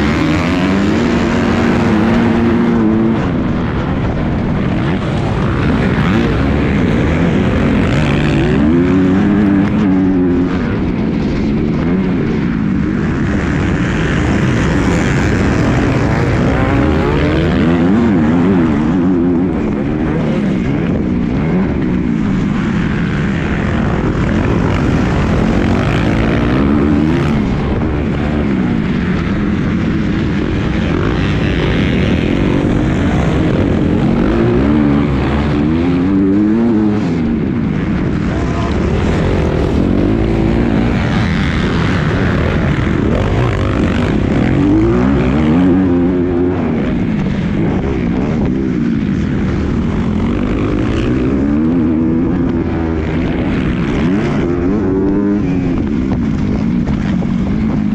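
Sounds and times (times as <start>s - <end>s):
motocross bike engine racing: 0.0s - 57.9s.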